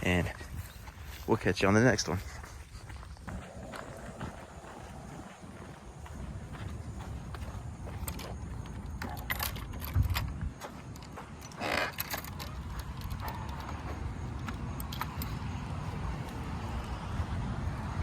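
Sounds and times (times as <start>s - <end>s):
footsteps on trail: 0.0s - 18.0s.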